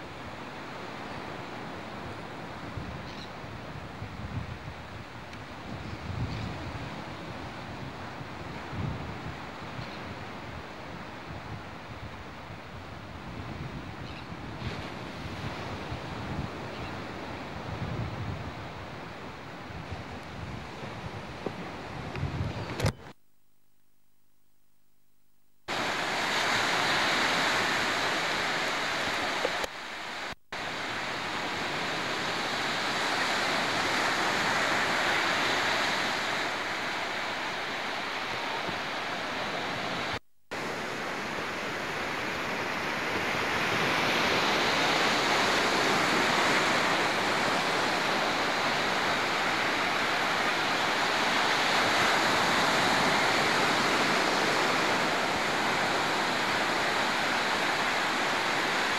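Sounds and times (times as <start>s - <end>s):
waves breaking on beach: 0.0s - 22.2s, 25.7s - 58.9s.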